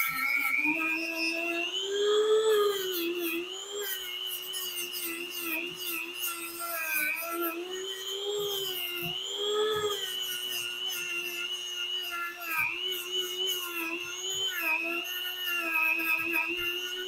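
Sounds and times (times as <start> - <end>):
abrasive rasping on wood: 0.0 - 17.0
rotary tool whining: 0.0 - 17.0.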